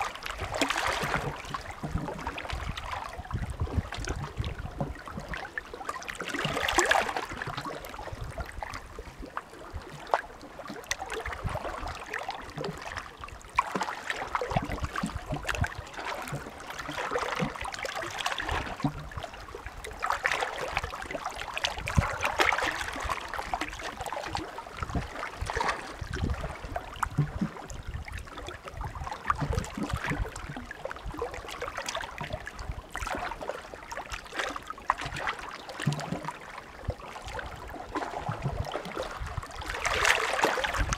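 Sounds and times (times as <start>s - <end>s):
small waves washing onto shore: 0.0s - 40.9s.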